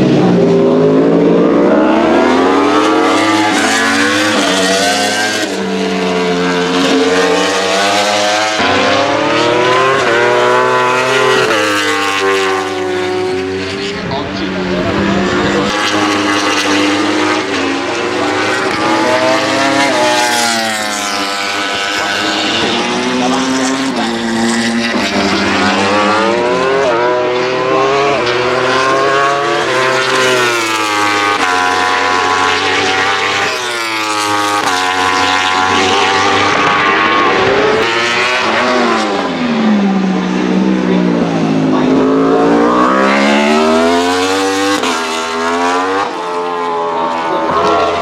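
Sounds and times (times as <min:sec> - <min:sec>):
racing motorcycles revving past: 0:00.0 - 0:48.0.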